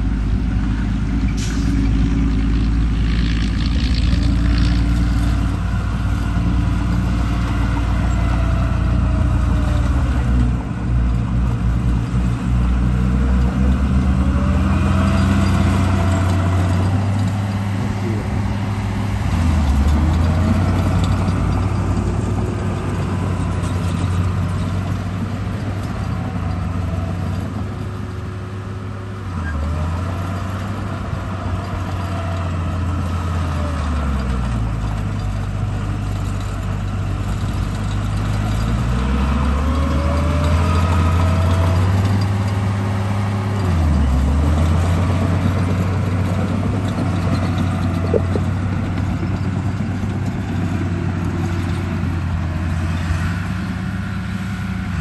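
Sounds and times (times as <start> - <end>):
low engine drone: 0.0 - 29.6, 34.2 - 55.0.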